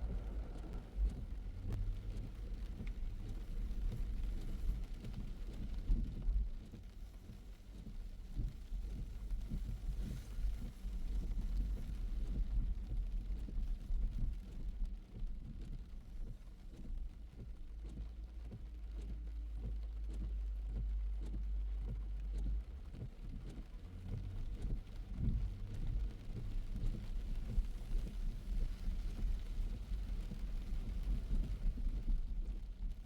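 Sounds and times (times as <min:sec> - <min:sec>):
car driving in rain: 0:00.0 - 0:33.0.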